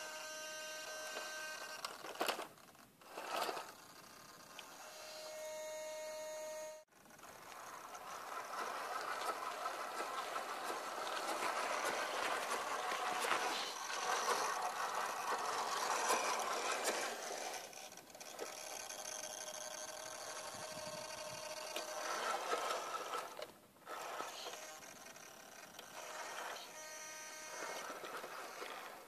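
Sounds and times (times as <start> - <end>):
electric motor whine: 0.0 - 1.9, 3.1 - 29.0.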